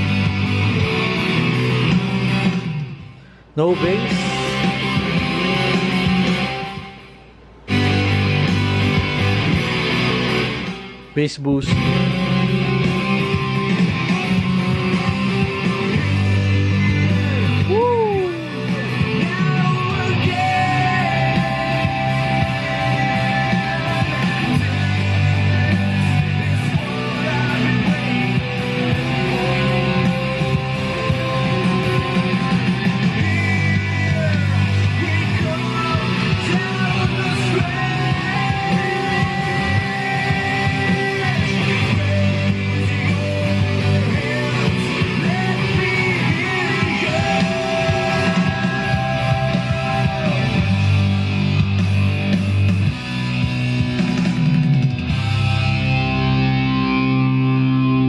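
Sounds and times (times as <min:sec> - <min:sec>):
rock music with electric guitar: 0:00.0 - 0:58.0.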